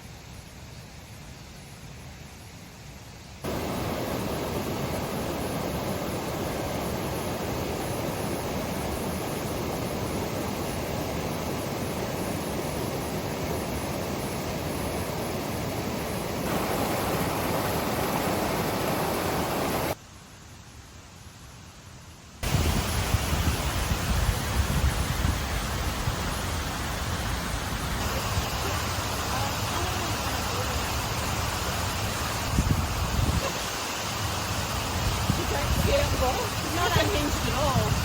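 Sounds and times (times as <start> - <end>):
waterfall rushing: 3.4 - 20.0, 22.4 - 38.0.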